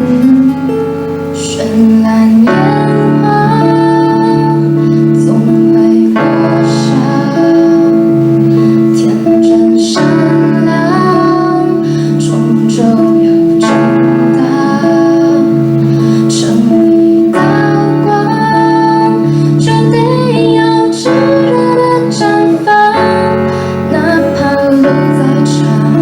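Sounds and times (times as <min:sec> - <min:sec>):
pop band playing a ballad: 0:00.0 - 0:26.0
woman singing: 0:00.0 - 0:26.0.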